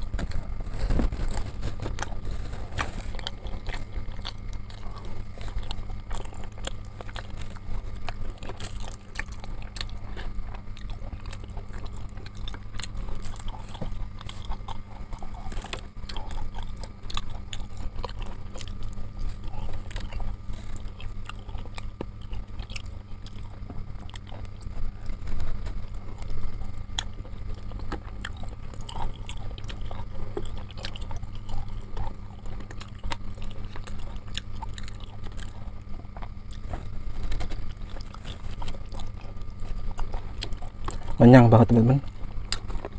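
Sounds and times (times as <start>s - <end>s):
man chewing: 0.0s - 42.9s.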